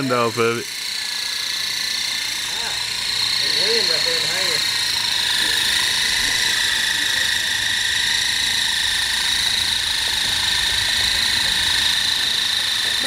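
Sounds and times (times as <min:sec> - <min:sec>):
toy helicopter whine: 0:00.0 - 0:13.0.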